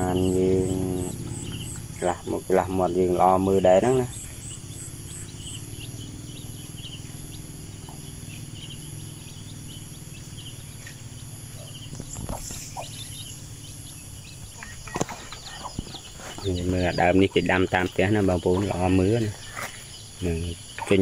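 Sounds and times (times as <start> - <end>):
birds and insects chirping: 0.0 - 21.0
steady low hum: 0.0 - 21.0.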